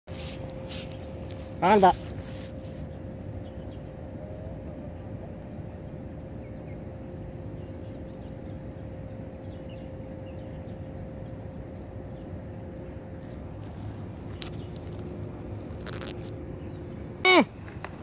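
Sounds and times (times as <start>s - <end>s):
low outdoor rumble: 0.1s - 18.0s.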